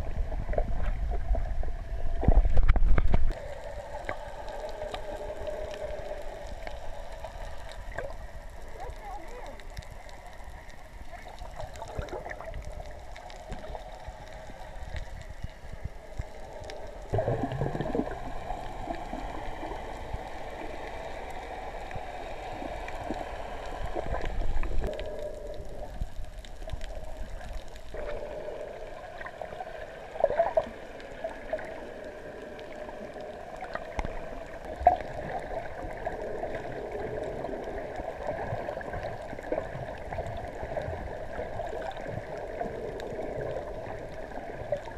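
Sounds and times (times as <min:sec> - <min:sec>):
underwater sloshing and gurgling: 0:00.0 - 0:44.9.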